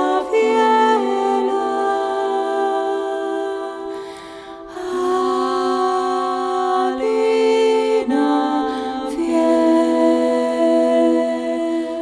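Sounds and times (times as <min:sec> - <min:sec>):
slow calm background music: 0:00.0 - 0:12.0.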